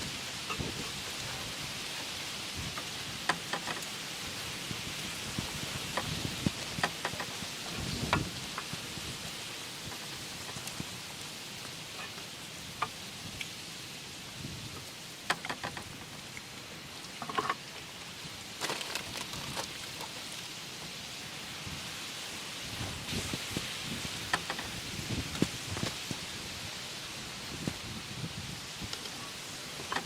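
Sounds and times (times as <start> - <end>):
rain falling: 0.0 - 30.0
raindrops tapping close by: 0.0 - 30.0.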